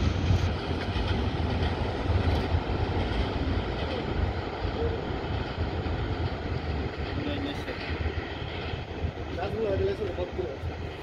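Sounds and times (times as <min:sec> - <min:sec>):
distant train rumbling: 0:00.0 - 0:11.0.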